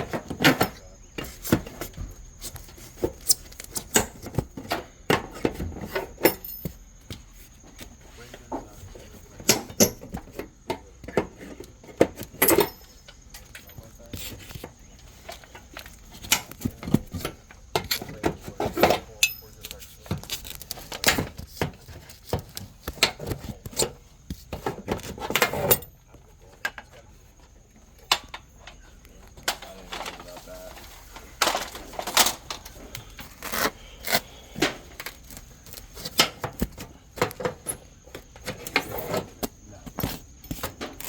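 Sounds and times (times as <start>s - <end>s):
metal tools on aluminum siding: 0.0s - 41.0s.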